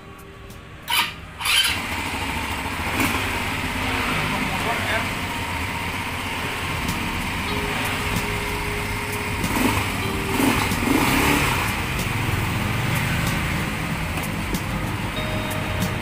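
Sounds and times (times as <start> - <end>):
atv engine idling and revving: 0.8 - 16.0.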